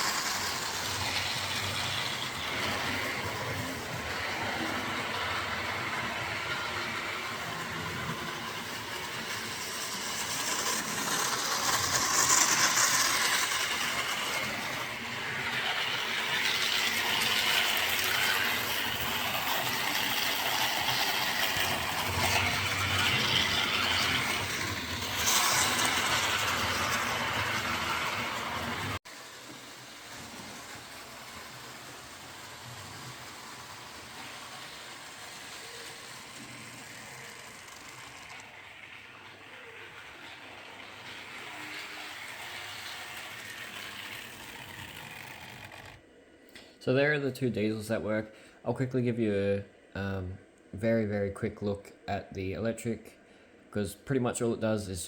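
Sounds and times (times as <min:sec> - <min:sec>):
model train motors whirring: 0:00.0 - 0:46.6.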